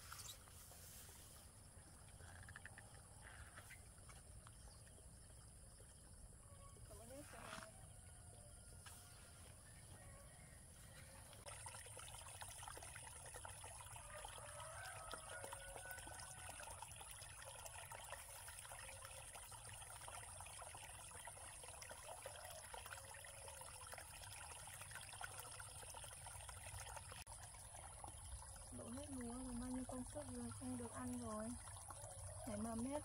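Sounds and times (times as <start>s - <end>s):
water trickling: 0.0s - 9.1s, 9.7s - 33.0s.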